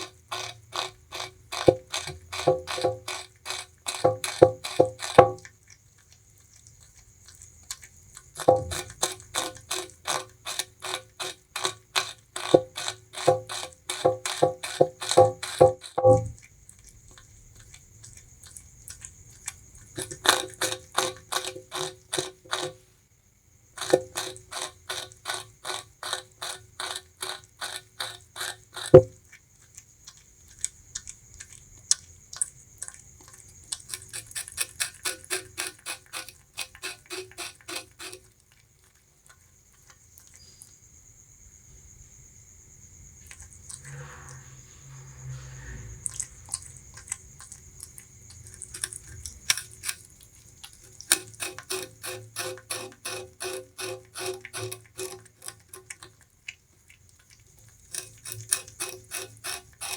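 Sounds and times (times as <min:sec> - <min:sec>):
rodent gnawing sugarcane crunches: 0:00.0 - 0:22.8, 0:23.7 - 0:40.8, 0:43.2 - 0:59.9.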